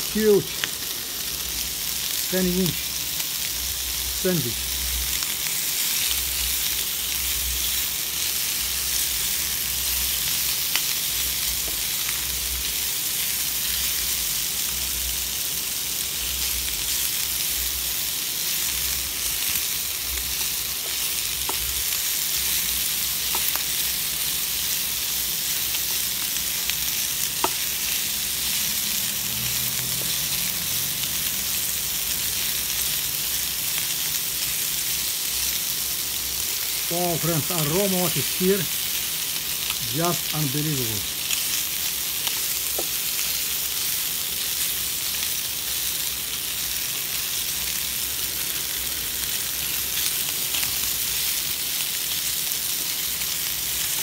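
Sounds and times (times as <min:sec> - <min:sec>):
chicken sizzling in oil: 0:00.0 - 0:54.0.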